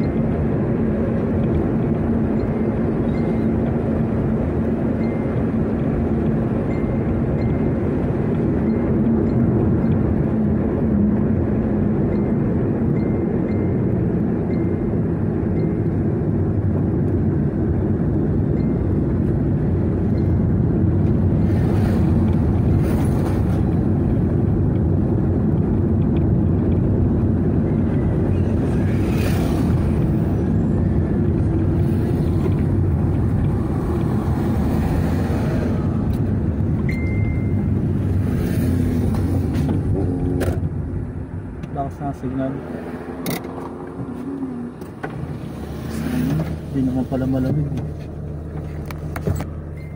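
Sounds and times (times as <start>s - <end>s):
car road and engine noise: 0.0s - 49.9s
oncoming vehicles passing: 0.0s - 49.9s.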